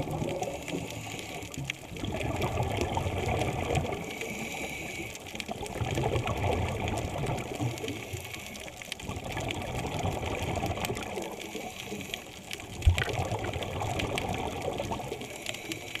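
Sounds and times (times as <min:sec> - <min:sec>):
faint crackling: 0:00.0 - 0:16.0
regulator bubbles gurgling underwater: 0:00.0 - 0:16.0.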